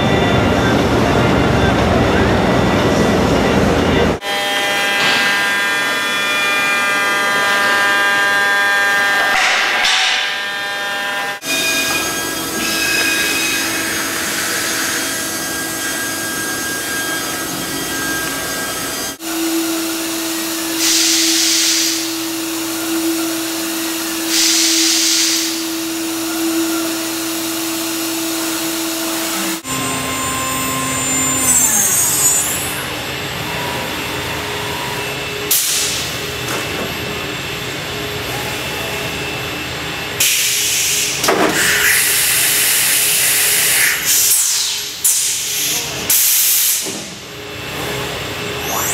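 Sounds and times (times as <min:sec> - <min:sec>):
router spindle whine: 0:00.0 - 0:40.2, 0:47.0 - 0:48.9.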